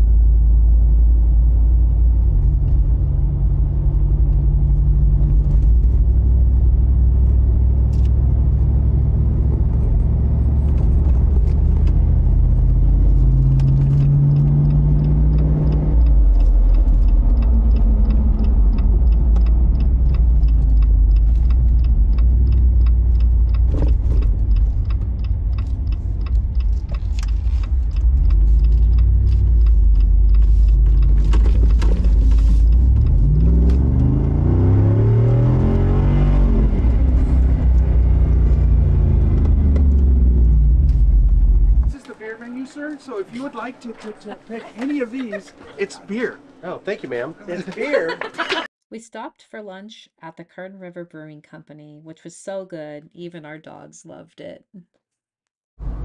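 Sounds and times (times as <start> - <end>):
car engine and road rumble: 0.0 - 48.7, 55.8 - 56.0.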